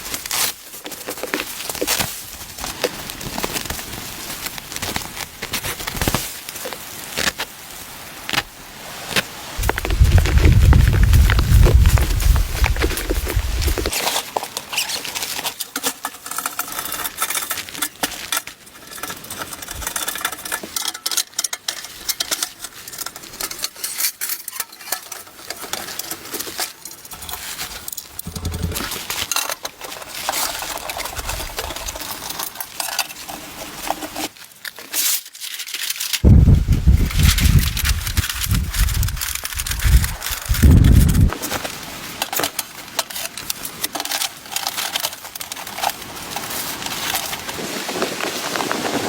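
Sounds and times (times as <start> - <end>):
continuous rustling: 0.0 - 49.0.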